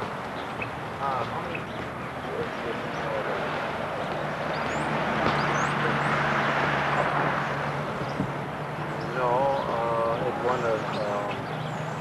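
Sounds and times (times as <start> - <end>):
passing vehicle engine drone: 1.0 - 12.0.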